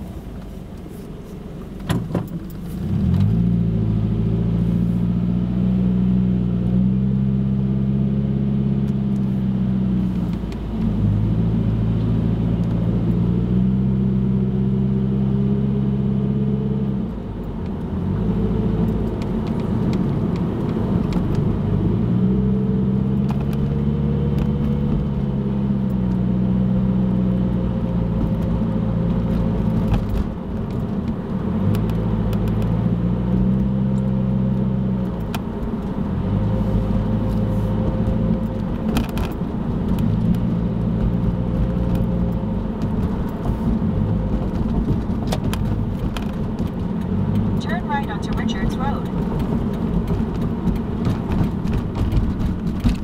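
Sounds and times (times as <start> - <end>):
car engine hum: 0.0 - 53.0
tyre and road noise: 0.0 - 53.0.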